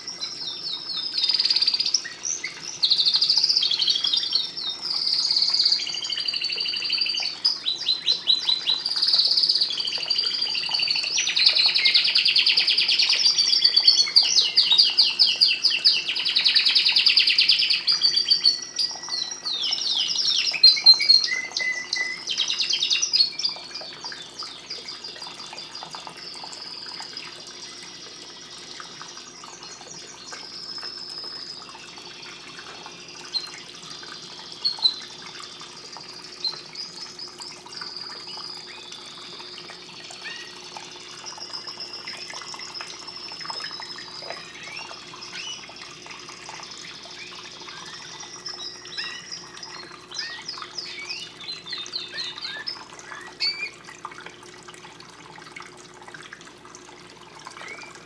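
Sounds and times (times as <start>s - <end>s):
canary singing trills: 0.0s - 53.9s, 57.6s - 58.0s.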